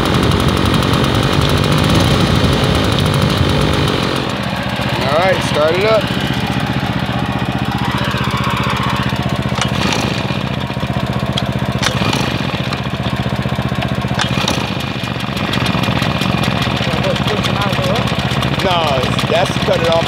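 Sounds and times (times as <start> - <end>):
leaf blower engine idling: 0.0 - 20.0.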